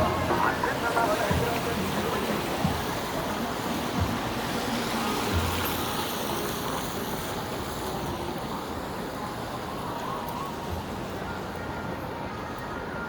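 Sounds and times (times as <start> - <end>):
cars passing on wet road: 0.0 - 10.7.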